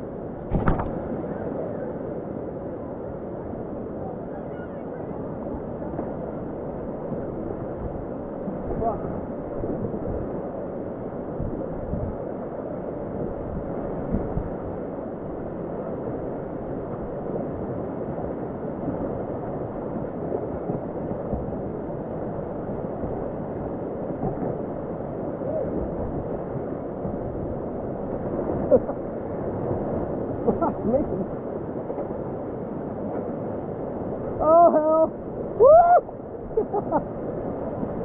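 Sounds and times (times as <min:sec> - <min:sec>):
muffled rush of whitewater: 0:00.0 - 0:38.0.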